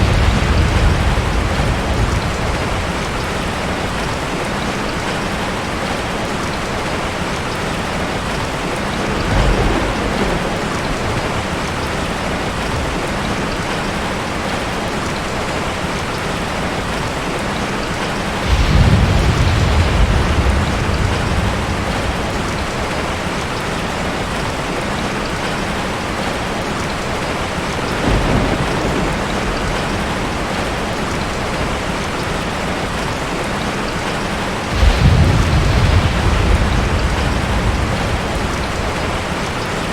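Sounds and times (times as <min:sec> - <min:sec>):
thunder rumbling: 0:00.0 - 0:17.0, 0:17.6 - 0:39.9
heavy rain: 0:00.0 - 0:39.9.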